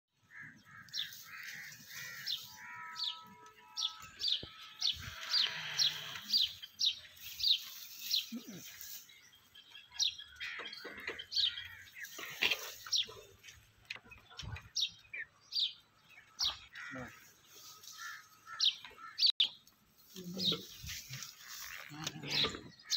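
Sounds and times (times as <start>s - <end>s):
birds chirping: 0.2s - 22.9s.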